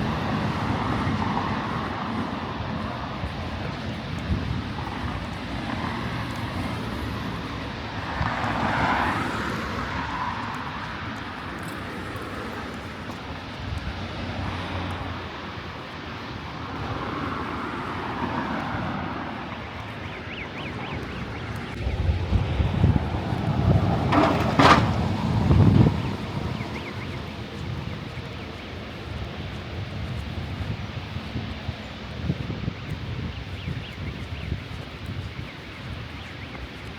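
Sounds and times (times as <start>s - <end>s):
passing motor traffic: 0.0s - 36.9s.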